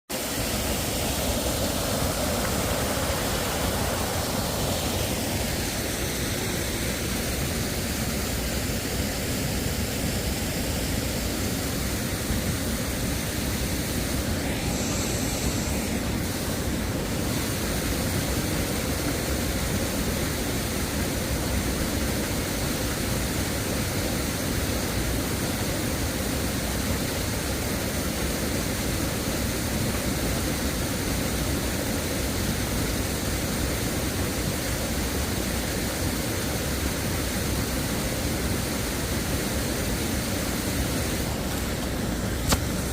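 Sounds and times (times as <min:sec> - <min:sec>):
waterfall roaring: 0:00.1 - 0:42.9.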